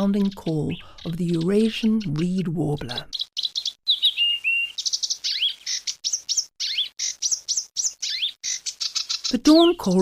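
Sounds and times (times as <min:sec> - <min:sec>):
warbler singing: 0:00.0 - 0:10.0.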